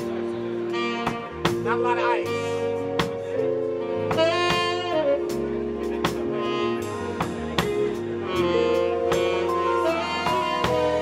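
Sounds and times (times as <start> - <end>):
drum kit steady beat: 0.0 - 11.0
saxophone melody: 0.0 - 11.0
sustained keyboard chords: 0.0 - 11.0.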